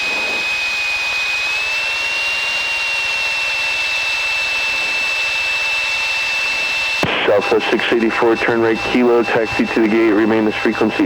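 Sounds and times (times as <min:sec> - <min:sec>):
aircraft engine and propeller: 0:00.0 - 0:11.0
high whine: 0:00.0 - 0:11.0.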